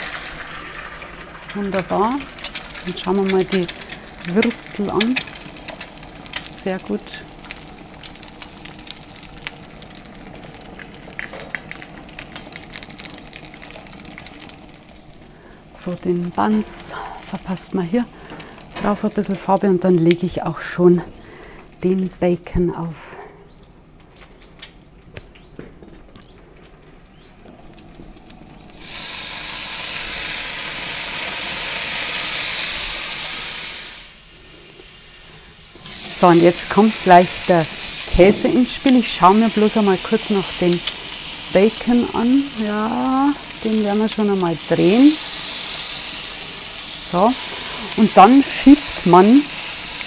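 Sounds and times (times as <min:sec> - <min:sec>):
sausages sizzling on a grill: 0:00.0 - 0:24.0, 0:26.1 - 0:50.0.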